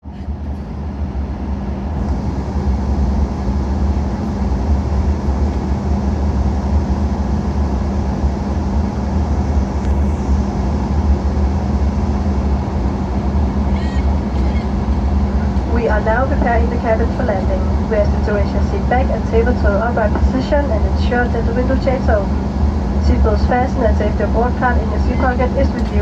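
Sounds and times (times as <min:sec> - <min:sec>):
airliner cabin drone: 0:00.0 - 0:26.0
low rumble: 0:00.0 - 0:26.0.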